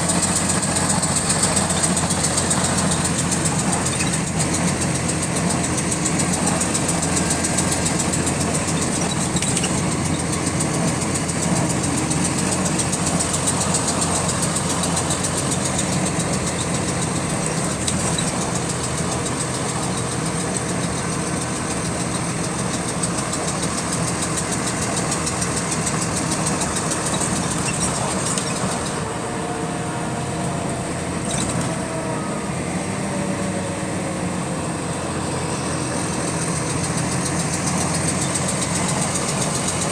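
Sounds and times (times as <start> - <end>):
fast repetitive clicking: 0.0 - 29.0, 36.0 - 39.9
bus engine running: 0.0 - 39.9.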